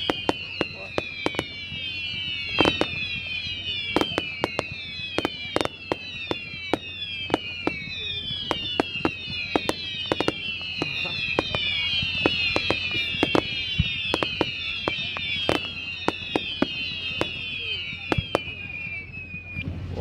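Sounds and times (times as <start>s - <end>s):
fireworks whistles falling: 0.0s - 19.7s
fireworks bangs and cracks: 0.0s - 19.8s.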